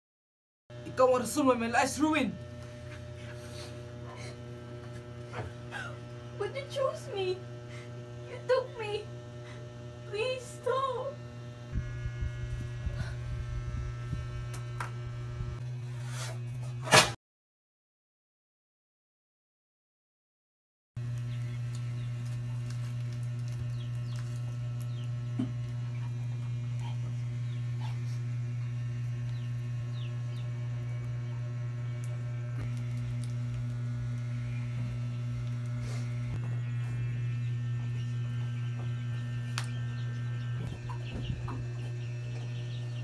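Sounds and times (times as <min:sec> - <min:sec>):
low electrical hum: 0:00.8 - 0:16.9, 0:21.0 - 0:43.0.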